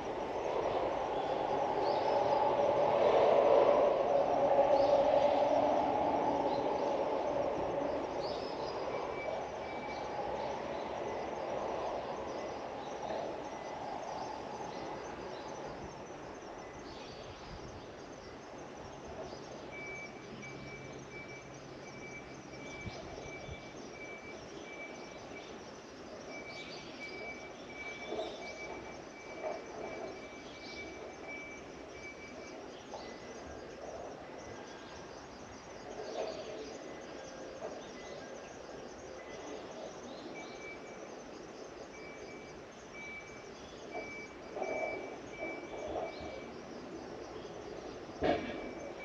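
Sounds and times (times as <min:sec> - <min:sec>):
cricket chirping: 0:00.0 - 0:49.0.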